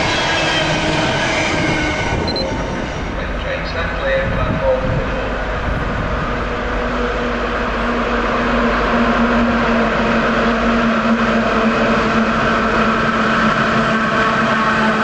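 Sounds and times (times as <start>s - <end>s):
electric locomotive hum and whine: 0.0s - 15.0s
wheels rumbling on rails: 0.0s - 15.0s.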